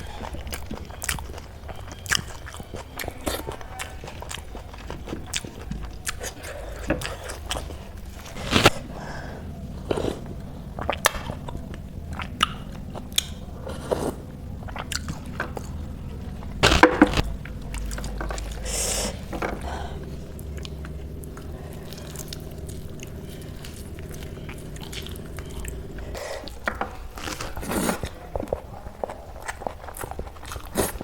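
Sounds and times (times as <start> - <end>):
chewing crunchy food: 0.0 - 31.0.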